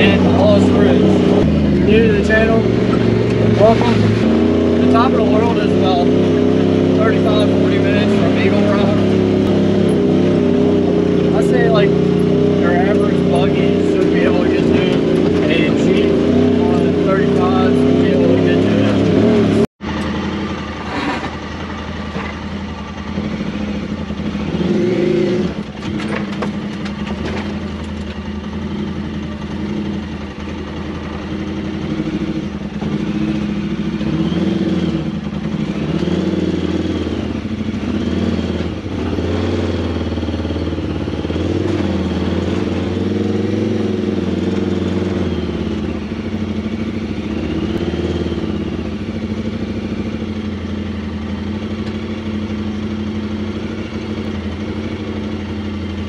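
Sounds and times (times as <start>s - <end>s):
utility vehicle engine revving: 0.0s - 56.0s.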